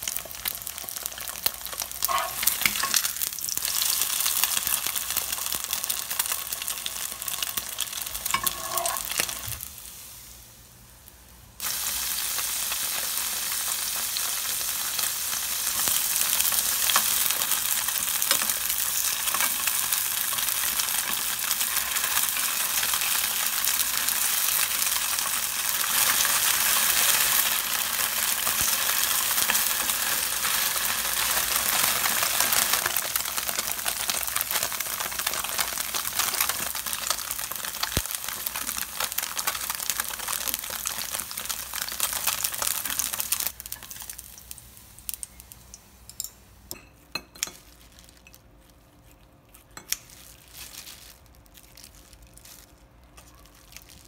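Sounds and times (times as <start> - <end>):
tofu sizzling in oil: 0.0 - 45.3.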